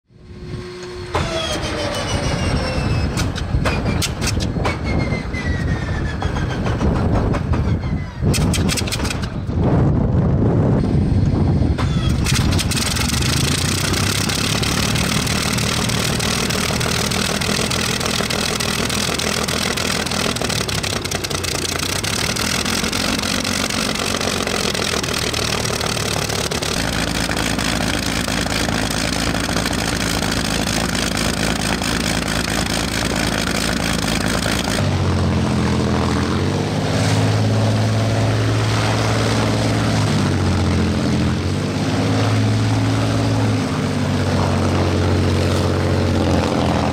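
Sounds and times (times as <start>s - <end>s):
piston aircraft engine running rough: 0.1s - 46.9s.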